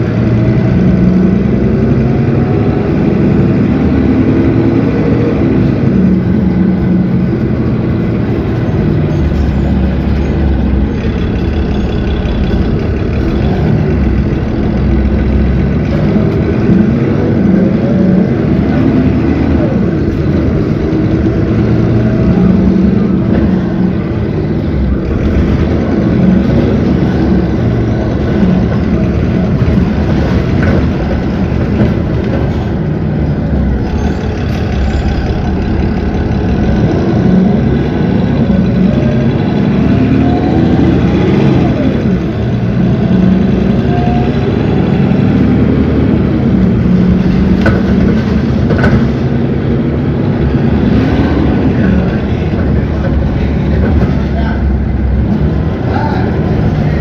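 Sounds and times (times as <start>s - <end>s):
engine whine rising in pitch: 0.0s - 32.6s, 33.3s - 53.8s
bus diesel engine running: 0.0s - 57.0s.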